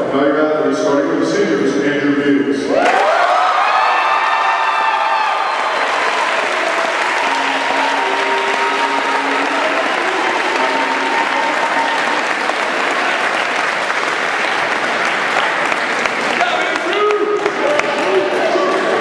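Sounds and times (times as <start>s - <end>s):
audience applauding: 2.8s - 19.0s.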